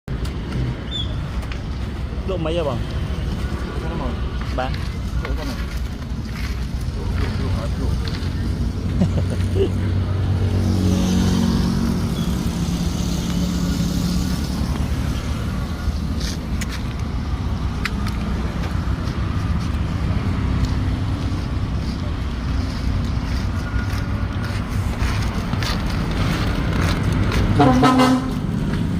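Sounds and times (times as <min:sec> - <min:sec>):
engine rumbling: 0:00.1 - 0:28.9.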